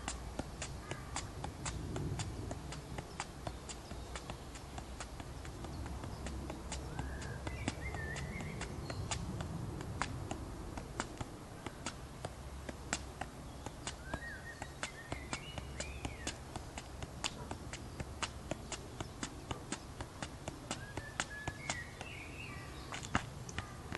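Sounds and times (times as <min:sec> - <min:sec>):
foot tapping a ball: 0:00.0 - 0:23.9.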